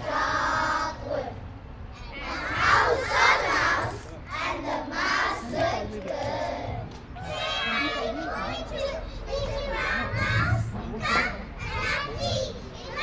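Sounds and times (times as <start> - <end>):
children reciting in unison: 0.0 - 1.4, 2.0 - 13.0.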